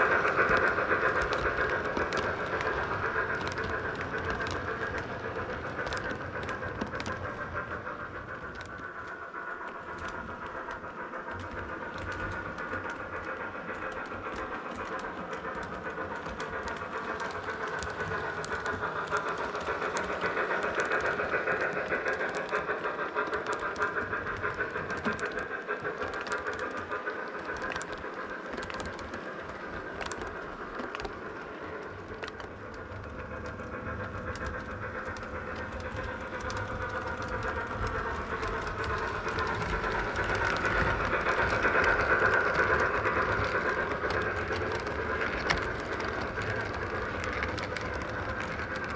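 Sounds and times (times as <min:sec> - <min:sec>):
model train rolling rumble: 0:00.0 - 0:48.9
wheel clicks at rail joints: 0:00.0 - 0:48.9.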